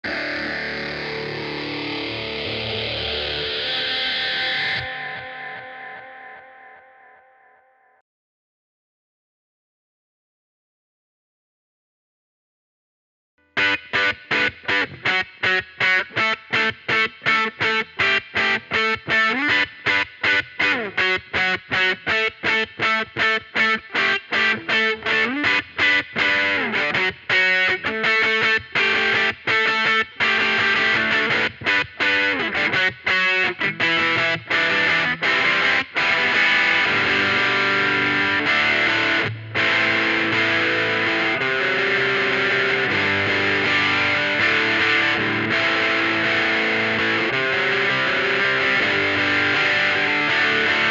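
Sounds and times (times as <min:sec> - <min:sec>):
distorted electric guitar: 0:00.0 - 0:08.0, 0:13.4 - 0:50.9.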